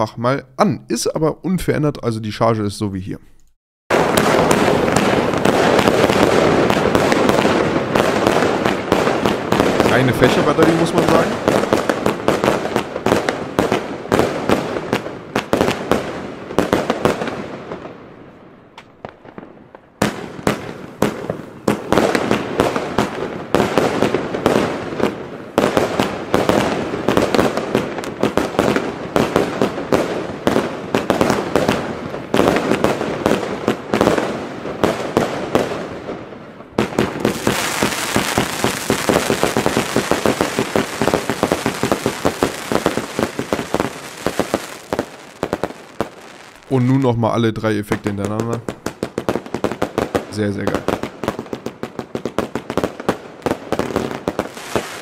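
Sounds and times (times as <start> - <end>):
firework cake firing and crackling: 3.9 - 18.0, 18.8 - 47.2, 47.9 - 55.0.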